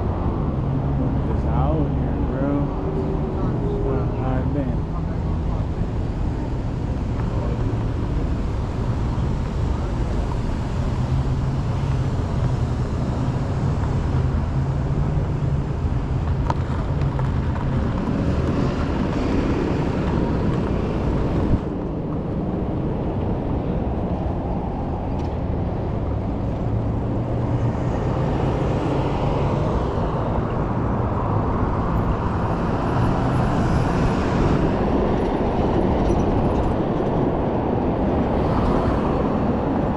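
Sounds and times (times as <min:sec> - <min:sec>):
car traffic: 0:00.0 - 0:39.9
road noise: 0:00.0 - 0:39.9
rushing wind: 0:00.0 - 0:39.9.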